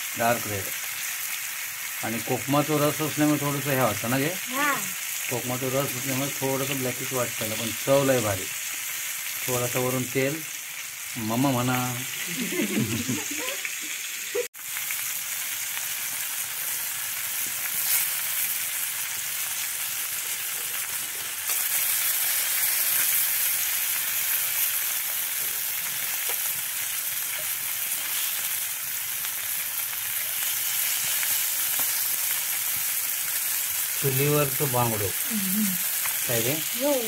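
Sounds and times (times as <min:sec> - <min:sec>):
fish frying in oil sizzling: 0:00.0 - 0:37.0.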